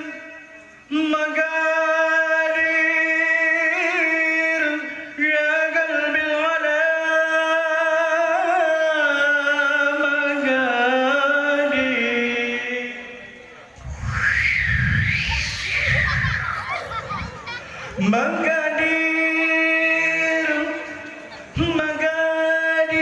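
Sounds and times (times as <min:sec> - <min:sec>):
man singing melismatic melody: 0:00.0 - 0:13.4, 0:18.0 - 0:23.0.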